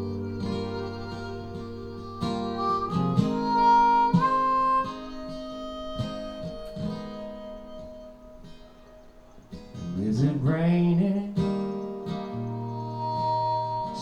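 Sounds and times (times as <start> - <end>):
harmonica: 0.0 - 10.0, 11.3 - 14.0
acoustic guitar strumming: 0.0 - 14.0.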